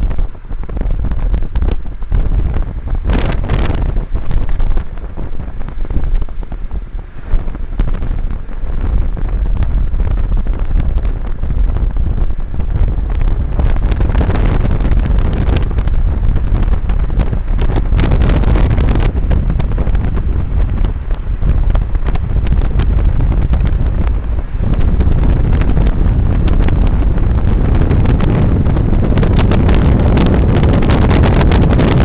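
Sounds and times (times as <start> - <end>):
car road rumble: 0.0 - 32.0
wind buffeting microphone: 0.0 - 32.0.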